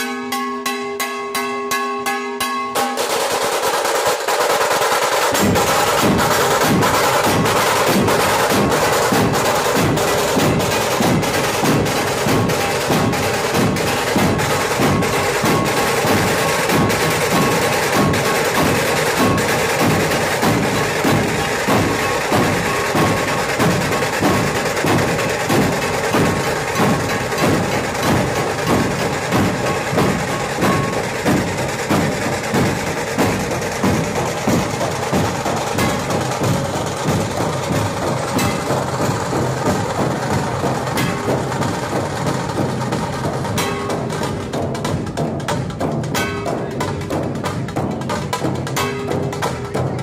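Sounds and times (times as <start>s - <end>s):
rattling drum roll: 2.8s - 50.0s
deep drum strokes: 5.2s - 50.0s.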